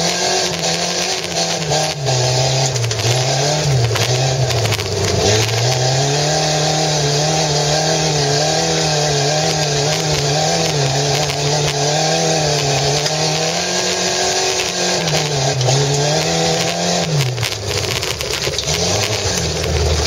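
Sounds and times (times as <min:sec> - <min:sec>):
car engine from inside cabin: 0:00.0 - 0:20.0.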